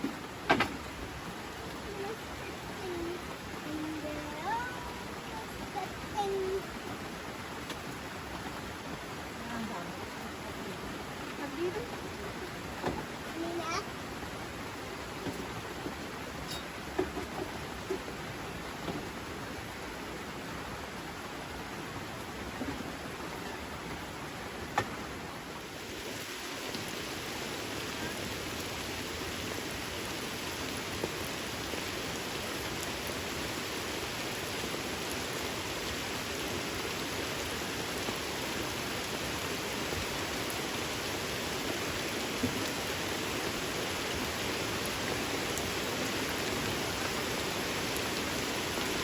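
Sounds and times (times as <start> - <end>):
rain falling: 0.0 - 49.0.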